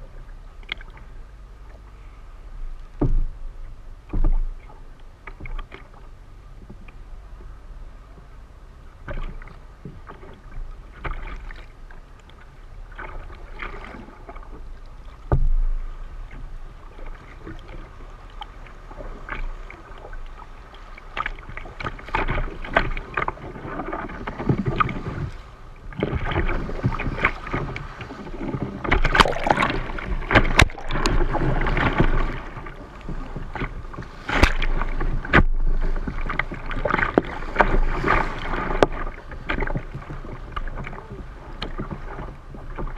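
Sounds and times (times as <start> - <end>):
paddle strokes: 0.0 - 42.9
water splashing against kayak hull: 0.0 - 42.9.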